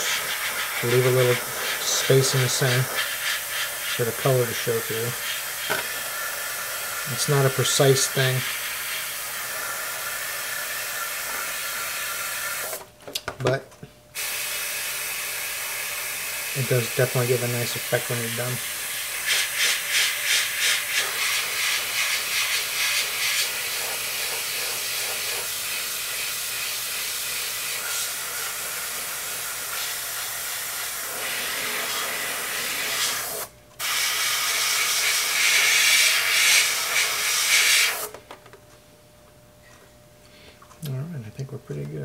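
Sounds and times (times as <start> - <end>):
airbrush spraying hiss: 0.0 - 12.8, 14.2 - 38.1.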